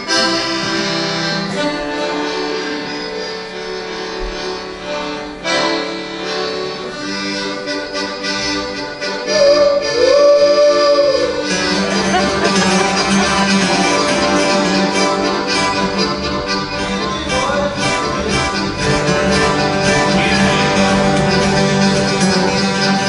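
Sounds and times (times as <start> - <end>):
accordion: 0.0 - 23.0
country band playing: 0.0 - 23.0.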